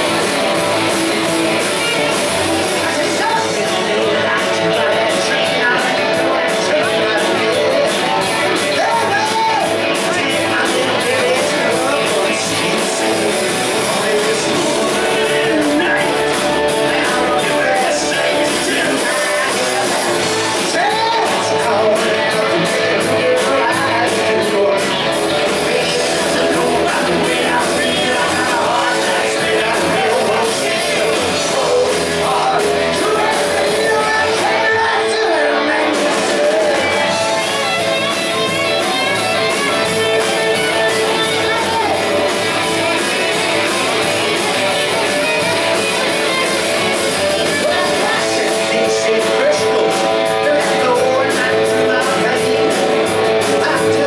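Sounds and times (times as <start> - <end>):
drums: 0.0 - 54.0
electric guitars: 0.0 - 54.0
man singing: 0.0 - 54.0.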